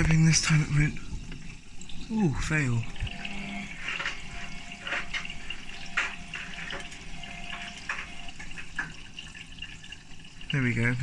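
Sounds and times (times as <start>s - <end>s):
water rushing into washing machine: 0.0s - 11.0s.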